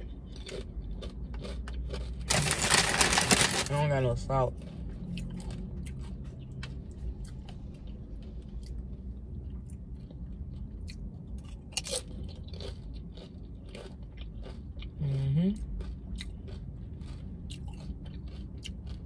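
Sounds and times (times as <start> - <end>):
person chewing crisp chip: 0.0 - 19.0.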